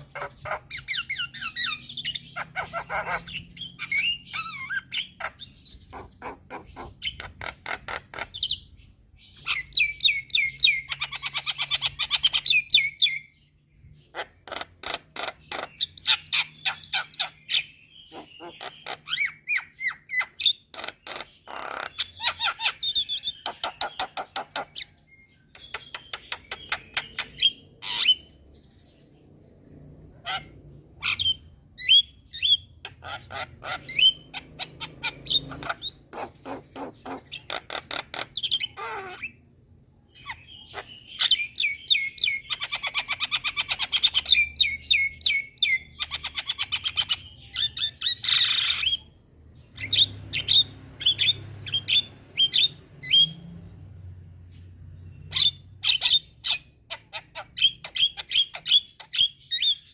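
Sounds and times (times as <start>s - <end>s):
birds calling and chattering: 0.0s - 59.9s.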